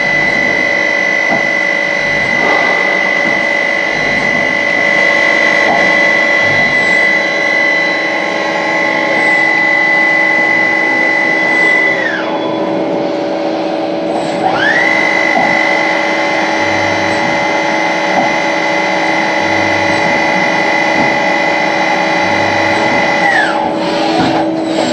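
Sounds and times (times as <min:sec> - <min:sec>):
lathe spindle whine: 0:00.0 - 0:24.9
low machine hum: 0:00.0 - 0:24.9.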